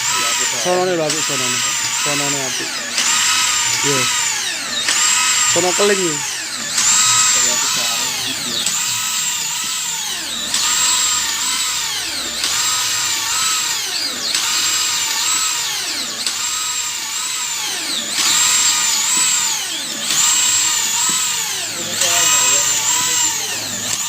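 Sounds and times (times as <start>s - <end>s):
electric drill motor whine: 0.0s - 24.0s.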